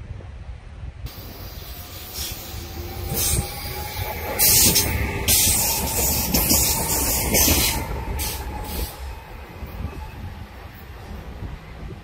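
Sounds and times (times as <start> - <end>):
train rumbling past: 1.0 - 12.0.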